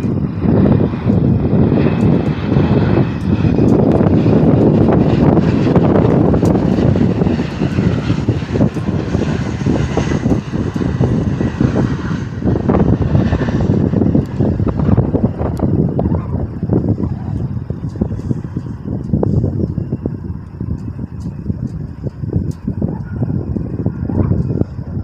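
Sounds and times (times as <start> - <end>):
airplane engines roaring: 0.0 - 25.0
wind on microphone: 0.0 - 25.0.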